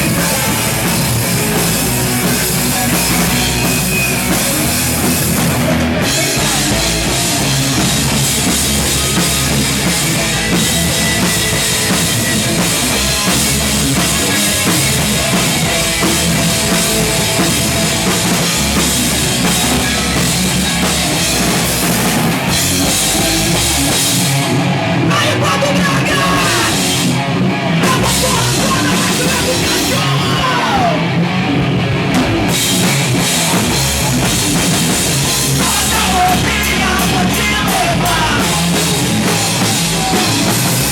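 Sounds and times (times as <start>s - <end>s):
amplified guitars and bass: 0.0s - 40.9s
drum kit: 0.0s - 40.9s
hard rock band playing: 0.0s - 40.9s.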